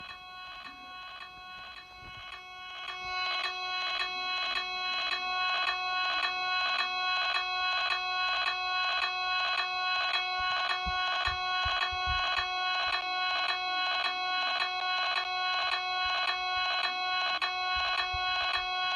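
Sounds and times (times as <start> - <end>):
pulsing electronic alarm: 0.0 - 18.9.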